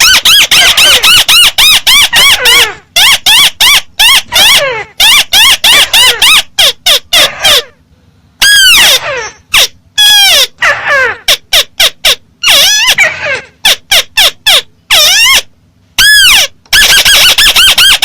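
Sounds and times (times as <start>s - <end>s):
amplified bird call: 0.0s - 7.7s, 8.4s - 18.0s.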